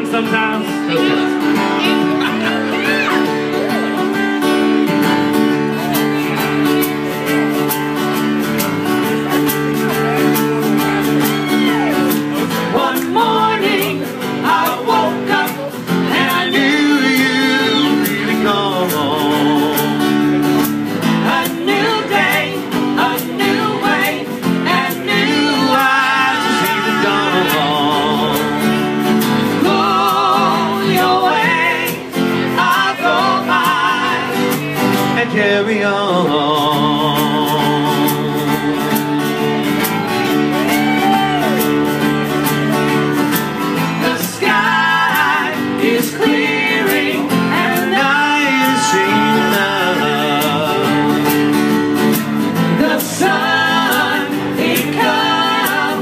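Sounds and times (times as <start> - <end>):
man and woman singing: 0.0 - 3.7, 10.6 - 41.6, 43.8 - 56.0
acoustic guitars strumming: 0.0 - 56.0.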